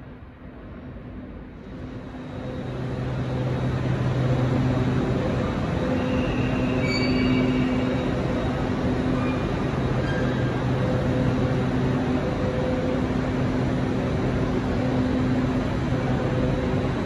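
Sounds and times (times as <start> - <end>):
electric train humming: 1.4 - 17.0.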